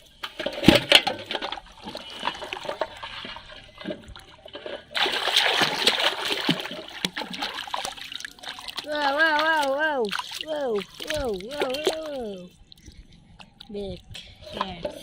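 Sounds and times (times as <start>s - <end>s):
water splashing: 0.0s - 13.7s.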